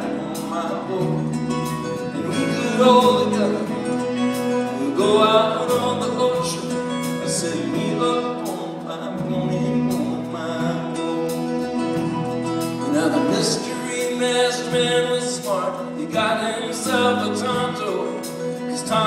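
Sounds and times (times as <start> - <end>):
acoustic guitar: 0.0 - 19.0
man singing: 0.0 - 19.0.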